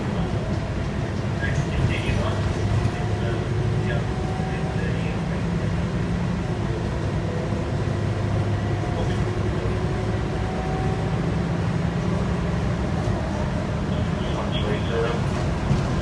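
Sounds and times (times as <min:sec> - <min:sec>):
bus diesel engine drone: 0:00.0 - 0:16.0
road noise: 0:00.0 - 0:16.0.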